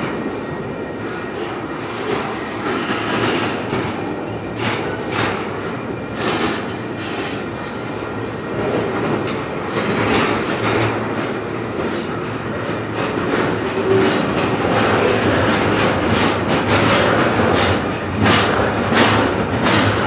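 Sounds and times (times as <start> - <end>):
freight train rumbling past: 0.0 - 20.0
wheels clicking over rail joints: 1.2 - 20.0.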